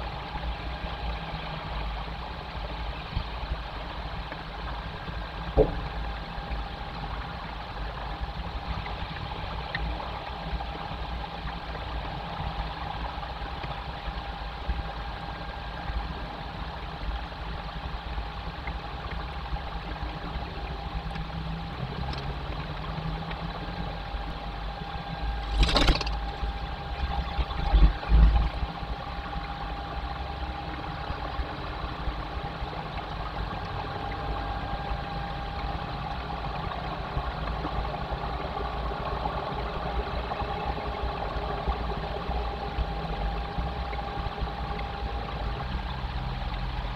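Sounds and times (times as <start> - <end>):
faint hum: 0.0 - 46.9.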